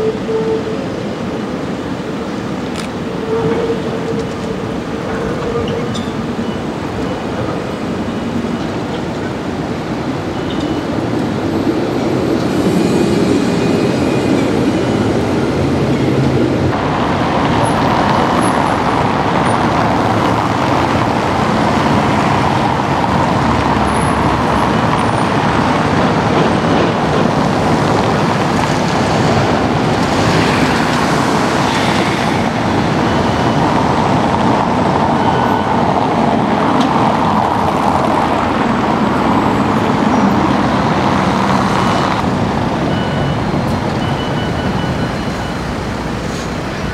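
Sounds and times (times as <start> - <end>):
road traffic: 0.0 - 46.9
tram passing close: 0.0 - 46.9
tram rumbling: 0.0 - 46.9.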